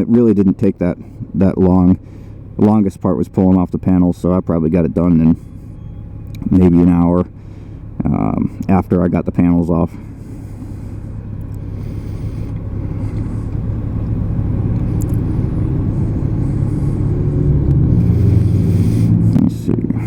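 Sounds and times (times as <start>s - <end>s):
motorcycle engine running: 0.1s - 20.0s.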